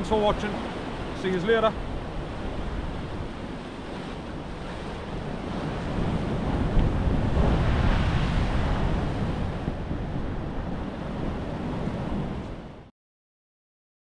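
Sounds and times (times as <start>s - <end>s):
surf on rocky shore: 0.0s - 12.9s
wind rumbling on microphone: 0.0s - 12.9s.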